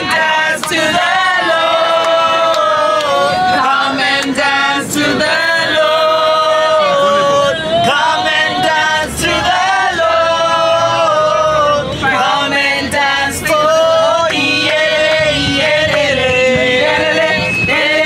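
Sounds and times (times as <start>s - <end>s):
group of people singing: 0.0s - 18.0s.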